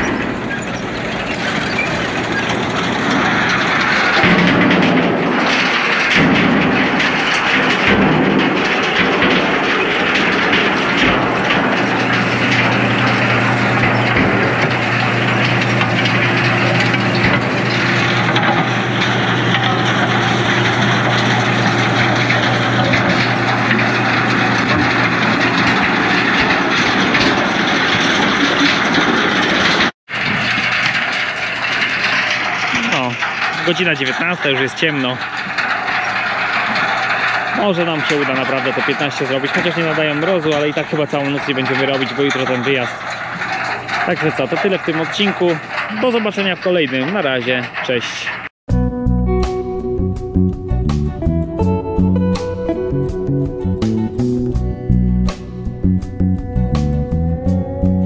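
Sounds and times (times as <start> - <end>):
stones rattling through machine: 0.0 - 48.5
tractor engine: 0.0 - 58.0.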